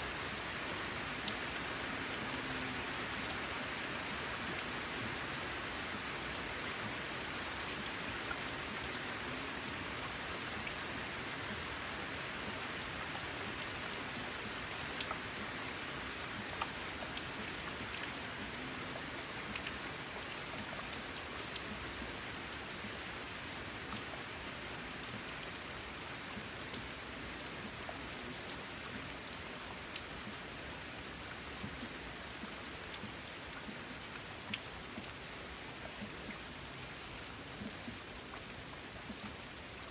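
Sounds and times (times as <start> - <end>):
rain on a tin roof: 0.0 - 39.9
raindrops ticking: 0.2 - 39.9.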